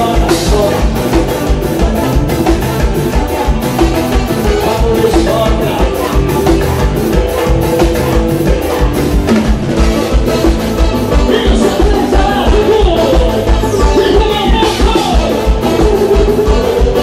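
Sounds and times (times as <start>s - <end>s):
band music with fast beat: 0.0s - 17.0s.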